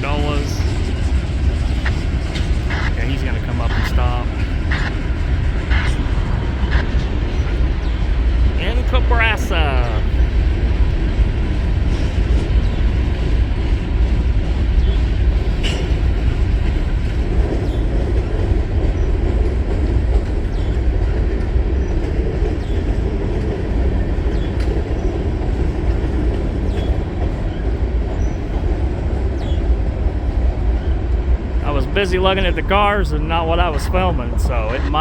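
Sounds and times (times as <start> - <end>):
train wheels clicking: 0.0 - 30.8
freight train rumbling past: 0.0 - 35.0.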